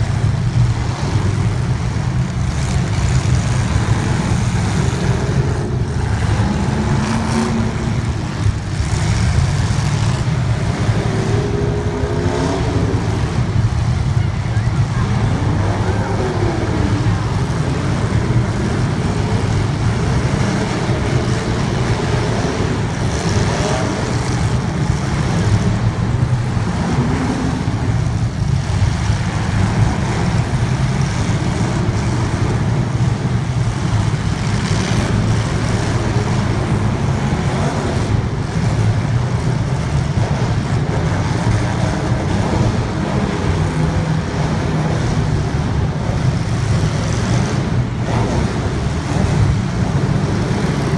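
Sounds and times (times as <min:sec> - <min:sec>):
racing engines passing: 0:00.0 - 0:50.9.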